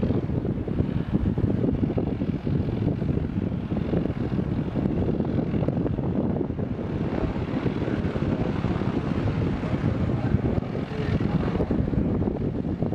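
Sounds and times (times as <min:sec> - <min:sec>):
small plane engine and propeller drone: 0:00.0 - 0:12.9
wind on microphone: 0:00.0 - 0:12.9.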